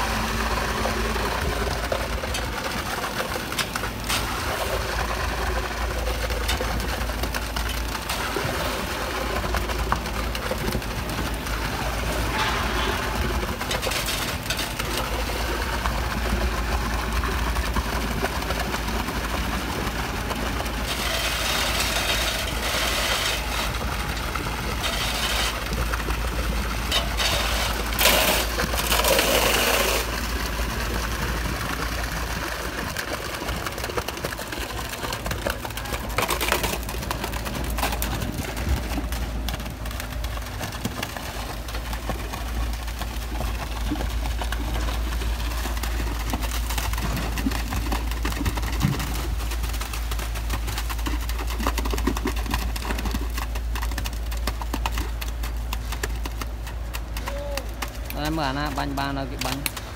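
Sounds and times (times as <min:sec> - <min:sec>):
truck engine running: 0:00.0 - 0:59.9
wet concrete pouring: 0:00.0 - 0:59.9.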